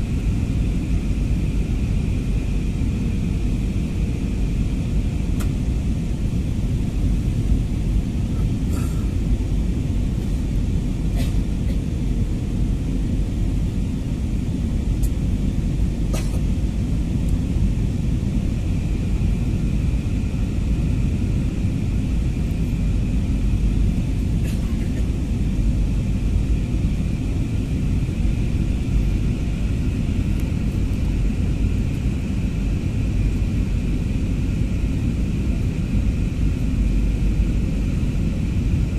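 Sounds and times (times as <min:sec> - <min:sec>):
jet airliner cabin rumble: 0:00.0 - 0:38.9.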